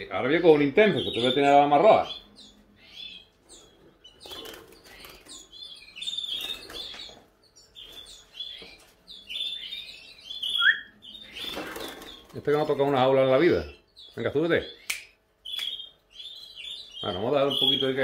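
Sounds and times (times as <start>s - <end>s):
canary chirping: 0.0s - 18.0s.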